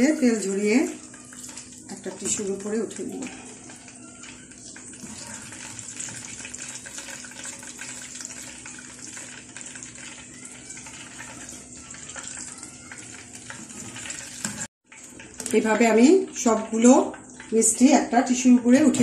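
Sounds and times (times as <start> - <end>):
dumplings sizzling in hot oil: 0.0 - 19.0.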